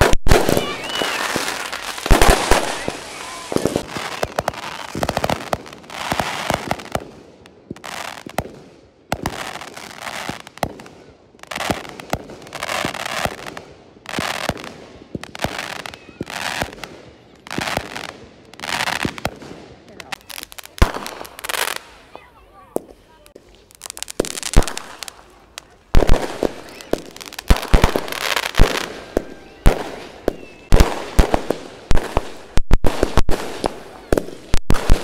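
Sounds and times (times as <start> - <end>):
fireworks bangs: 0.0 - 35.0
fireworks crackle: 0.0 - 35.0.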